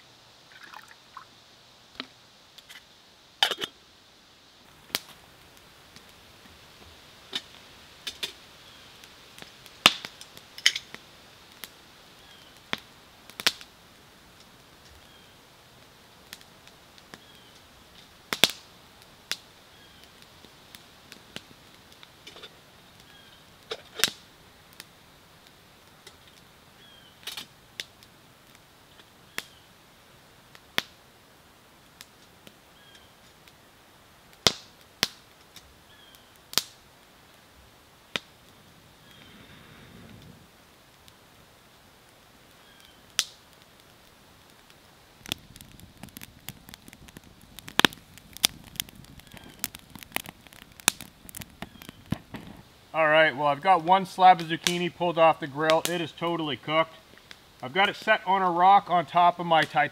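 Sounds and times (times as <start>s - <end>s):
campfire crackling and popping: 0.0s - 59.9s
faint steady hiss: 0.0s - 59.9s.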